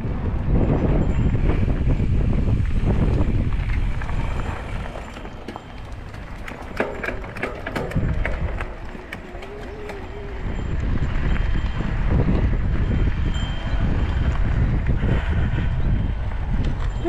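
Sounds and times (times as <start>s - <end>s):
wind buffeting microphone: 0.0s - 17.0s
bike clicking and rattling: 0.1s - 17.0s.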